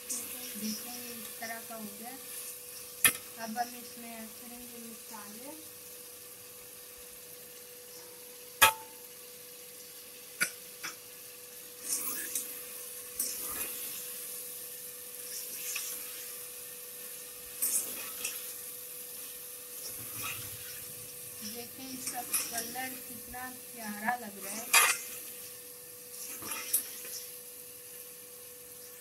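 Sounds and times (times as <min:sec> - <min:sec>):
chicken sizzling in pot: 0:00.0 - 0:29.0
faint steady hum: 0:00.0 - 0:29.0.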